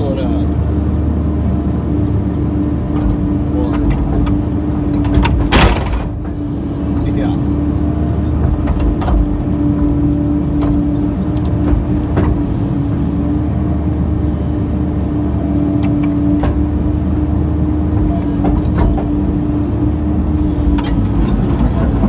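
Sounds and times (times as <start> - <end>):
excavator engine and hydraulics: 0.0 - 22.0.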